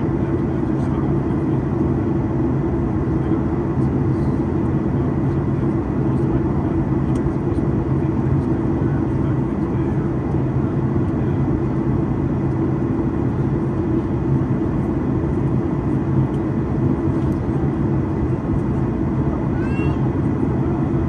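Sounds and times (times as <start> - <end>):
airliner cabin engine drone: 0.0 - 21.0.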